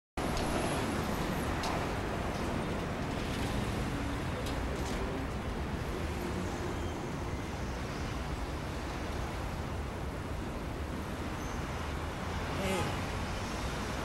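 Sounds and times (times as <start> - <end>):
city street traffic: 0.2 - 14.0.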